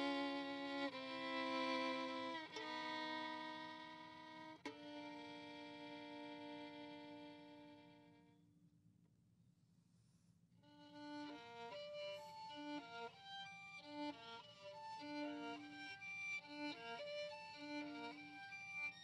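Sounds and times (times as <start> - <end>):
violin playing quick notes: 0.0 - 8.1, 11.0 - 19.0.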